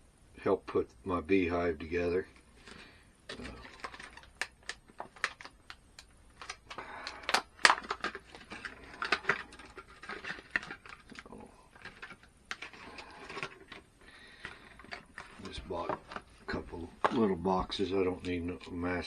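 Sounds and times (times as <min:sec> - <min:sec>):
small boxes of nails handled: 0:02.2 - 0:19.0.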